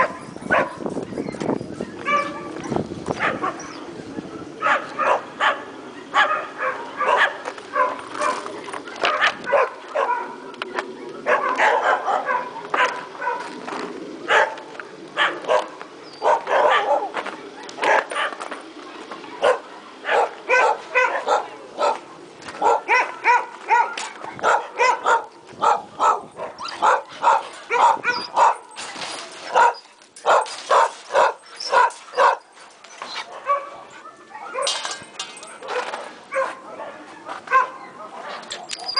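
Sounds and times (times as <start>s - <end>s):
dogs barking: 0.0s - 13.6s, 14.2s - 18.6s, 19.2s - 28.8s, 29.4s - 38.9s.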